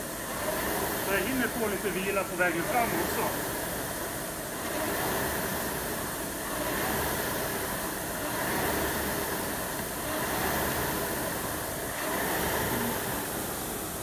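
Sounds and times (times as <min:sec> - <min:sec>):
rowing machine flywheel whooshing: 0:00.0 - 0:14.0.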